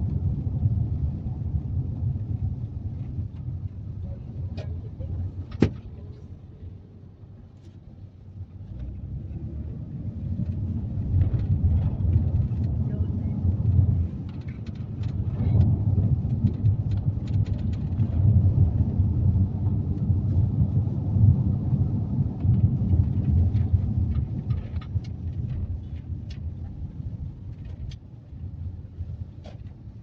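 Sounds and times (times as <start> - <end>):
low rumbling noise: 0.0 - 30.0.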